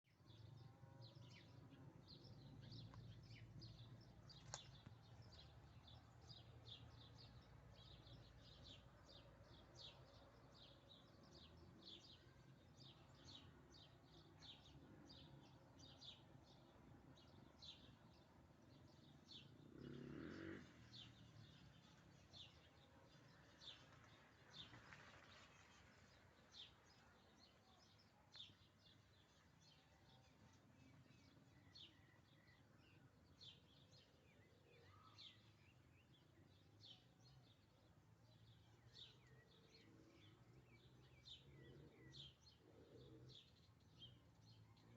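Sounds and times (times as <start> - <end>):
faint bird chirping: 0.1 - 44.9.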